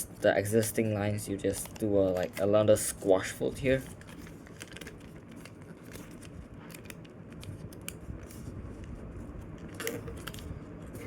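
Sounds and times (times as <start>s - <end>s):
paper crinkling: 1.5s - 11.0s.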